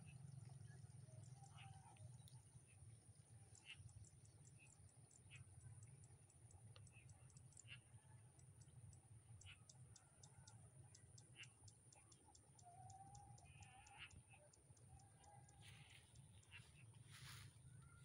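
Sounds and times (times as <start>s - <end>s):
faint chirps: 0.0s - 18.0s.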